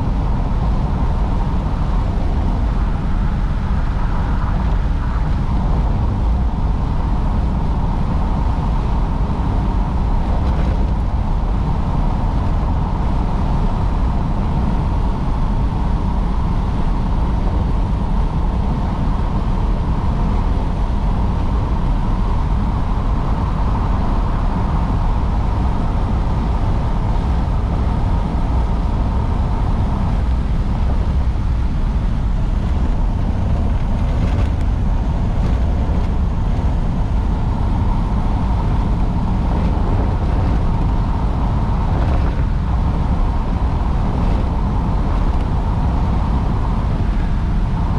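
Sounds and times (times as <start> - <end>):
car engine and road rumble: 0.0 - 47.9
faint steady whine: 0.0 - 47.9.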